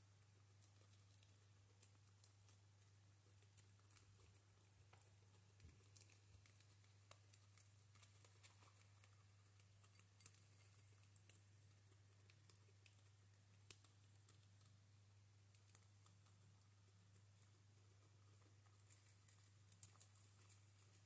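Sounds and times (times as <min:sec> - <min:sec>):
guinea pigs crunching food: 0:00.0 - 0:21.0.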